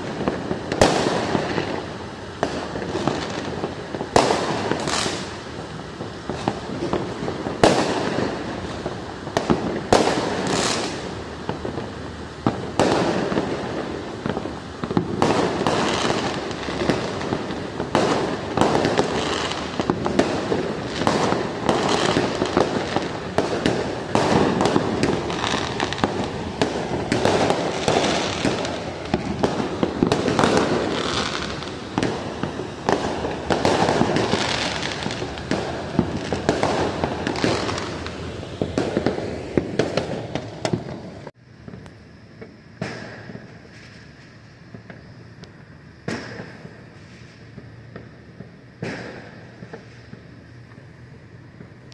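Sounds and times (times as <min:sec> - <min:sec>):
fireworks bangs: 0:00.0 - 0:51.9
fireworks crackle: 0:00.0 - 0:51.9.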